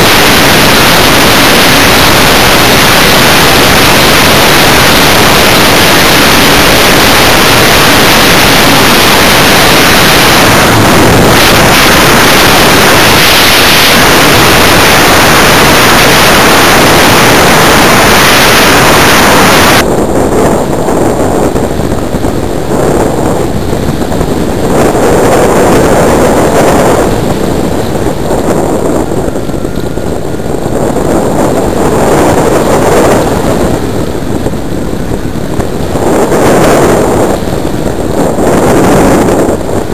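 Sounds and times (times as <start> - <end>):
motor and propeller rush: 0.0 - 39.9
wind noise over airframe: 0.0 - 39.9.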